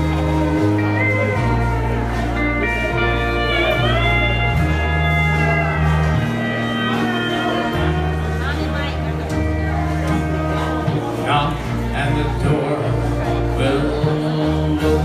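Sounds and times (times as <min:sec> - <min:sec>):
bass line: 0:00.0 - 0:15.0
country band playing: 0:00.0 - 0:15.0
steel guitar sliding: 0:00.0 - 0:15.0.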